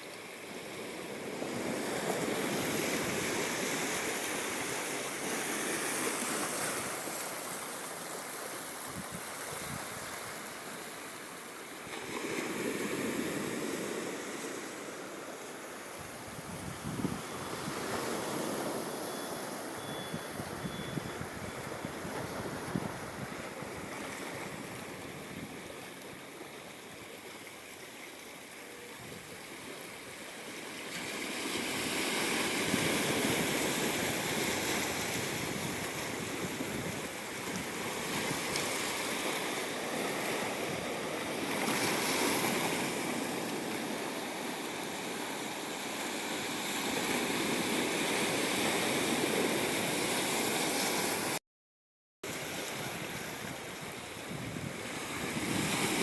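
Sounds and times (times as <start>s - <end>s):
ocean waves washing ashore: 0.0s - 28.8s, 29.4s - 51.4s, 52.3s - 56.0s.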